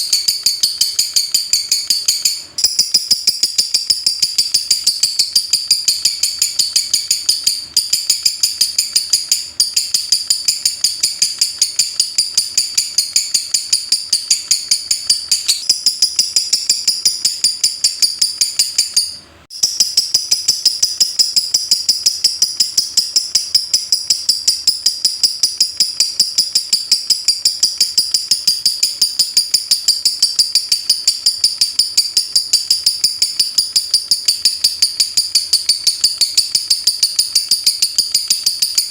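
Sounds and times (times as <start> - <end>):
lovebird rapid high chirps: 0.0 - 38.9.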